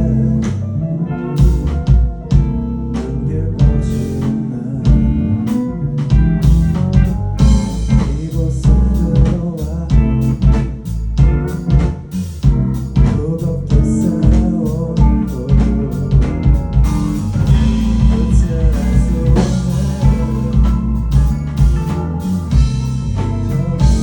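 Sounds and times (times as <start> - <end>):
bass guitar: 0.0 - 24.0
electric guitar: 0.0 - 24.0
drum kit: 1.4 - 24.0.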